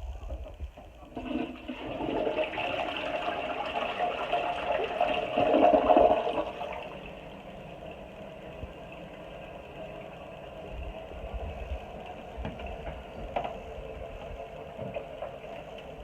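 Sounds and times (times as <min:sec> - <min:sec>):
toilet flushing: 0:01.0 - 0:16.0.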